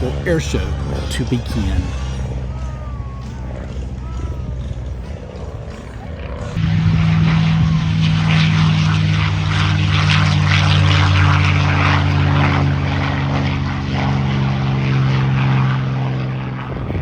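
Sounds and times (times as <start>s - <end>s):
propeller airplane engine droning: 0.0s - 17.0s.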